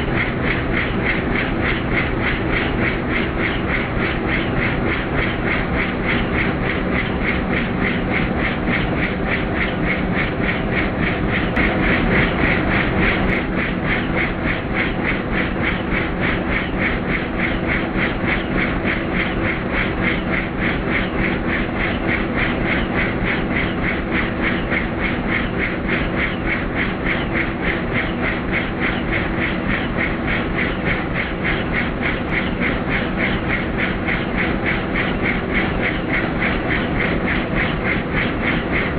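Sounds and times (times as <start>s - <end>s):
helicopter rotor beating: 0.0s - 38.9s.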